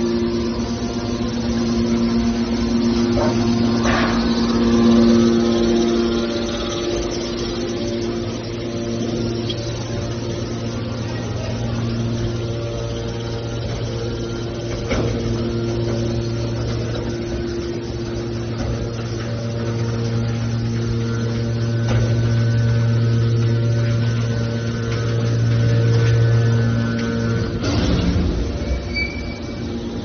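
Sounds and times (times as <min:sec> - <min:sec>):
hydraulic power unit humming: 0:00.0 - 0:30.0.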